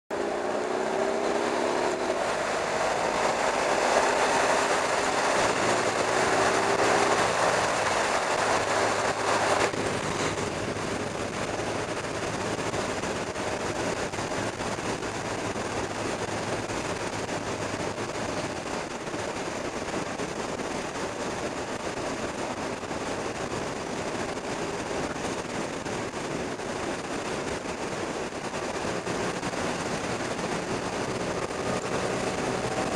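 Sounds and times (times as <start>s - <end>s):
motorcycle engine hum: 0.1s - 32.9s
wind rushing over microphone: 0.1s - 32.9s.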